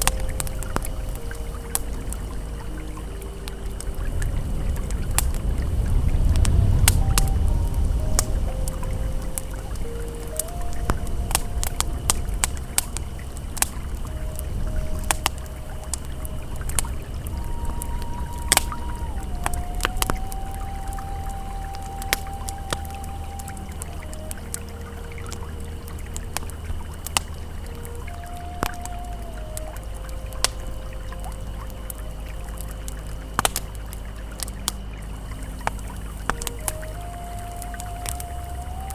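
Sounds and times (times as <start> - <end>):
campfire crackling and popping: 0.0 - 38.9
faint ambient tone: 0.0 - 38.9
flowing river: 0.0 - 38.9.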